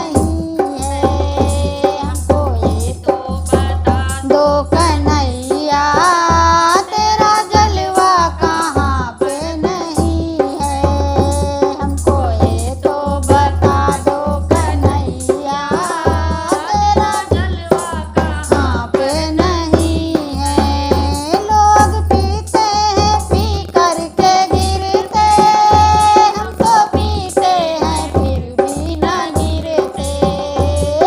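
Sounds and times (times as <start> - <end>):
devotional song sung melody: 0.0 - 31.0
percussion beat with heavy bass: 0.0 - 31.0.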